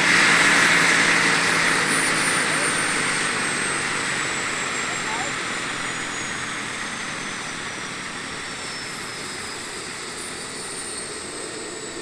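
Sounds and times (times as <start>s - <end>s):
rotor and exhaust rushing: 0.0s - 12.0s
turbine whine: 0.0s - 12.0s.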